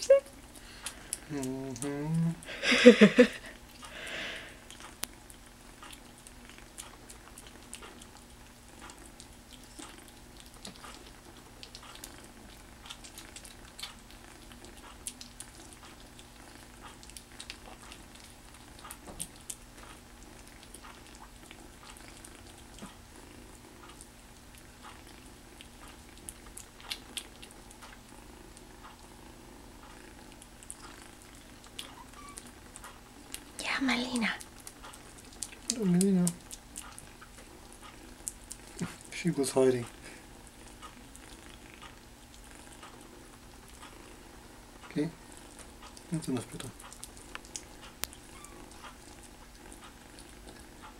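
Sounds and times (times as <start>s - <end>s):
kitten licking wet food: 0.4s - 50.9s.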